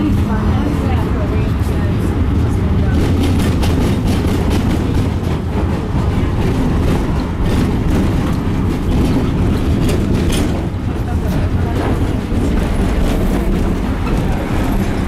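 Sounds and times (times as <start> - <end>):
tram wheels rumbling on rails: 0.0 - 15.0.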